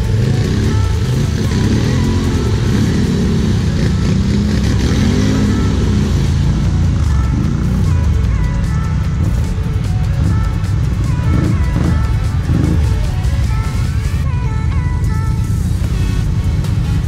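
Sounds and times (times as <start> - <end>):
background music: 0.0 - 17.0
quad bike engines revving: 0.0 - 17.0.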